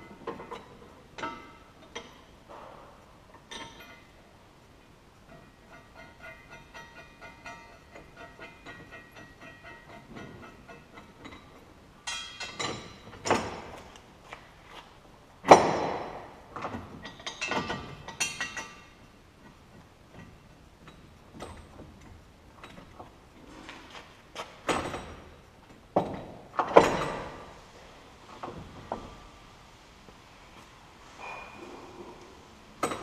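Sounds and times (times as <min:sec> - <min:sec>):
steel brackets clunking: 0:00.0 - 0:04.3, 0:05.2 - 0:14.0, 0:15.4 - 0:27.7, 0:31.0 - 0:33.0.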